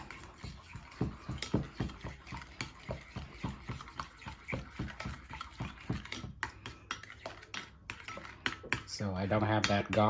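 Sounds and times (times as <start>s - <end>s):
thick sauce squelching: 0.0s - 10.0s.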